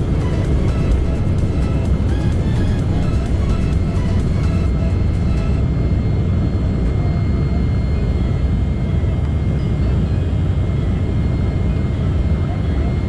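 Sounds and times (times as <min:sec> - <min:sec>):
jet engines rumbling at takeoff: 0:00.0 - 0:13.0.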